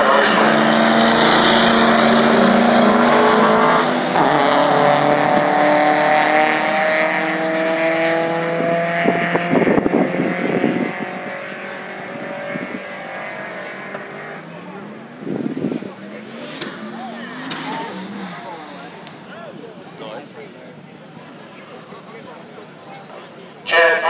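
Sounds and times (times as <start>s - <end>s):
drag racing car accelerating: 0.0s - 23.1s.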